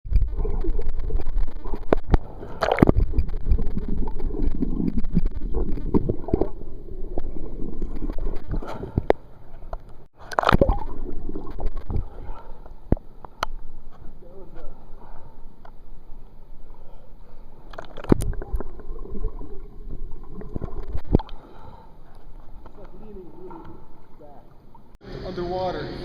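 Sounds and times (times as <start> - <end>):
water splashes: 0.1 - 15.3, 17.2 - 25.0.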